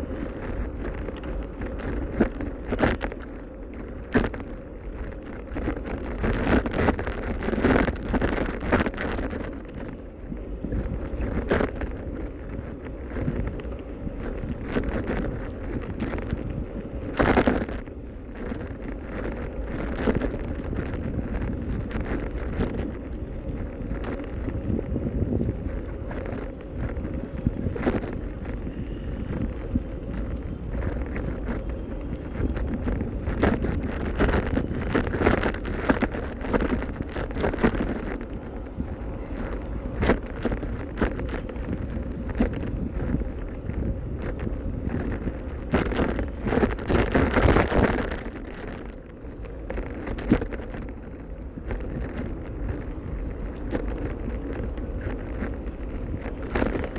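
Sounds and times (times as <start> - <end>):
bicycle knocks and rattles: 0.0 - 56.9
wind buffeting microphone: 0.0 - 56.9.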